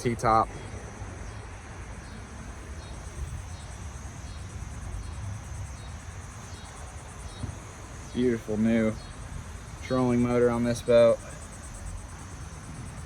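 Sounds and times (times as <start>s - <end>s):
insects chirring: 0.0s - 13.0s
low rumble of wind: 0.0s - 13.0s.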